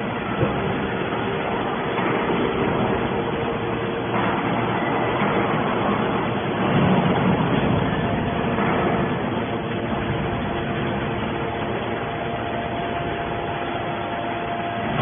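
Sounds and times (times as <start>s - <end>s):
hydraulic baler hum and hiss: 0.0s - 15.0s.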